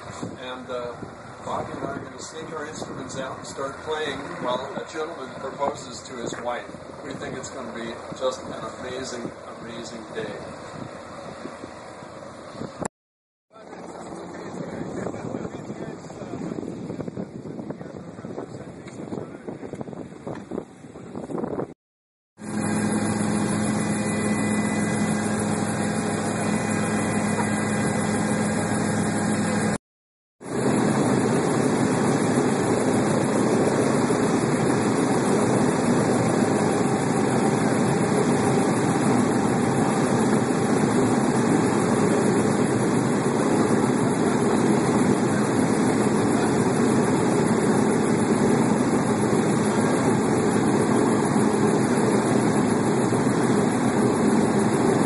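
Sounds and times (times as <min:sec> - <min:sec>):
helicopter engine and rotor drone: 0:00.0 - 0:12.9, 0:13.5 - 0:21.7, 0:22.4 - 0:29.8, 0:30.4 - 0:55.0.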